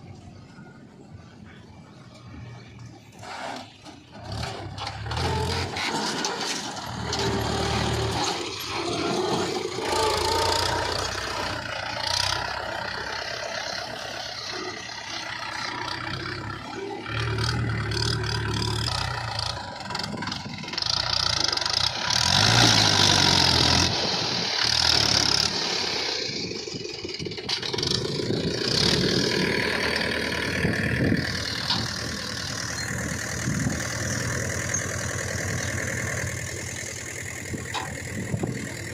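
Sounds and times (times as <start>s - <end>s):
diesel engines revving: 0.0s - 38.9s.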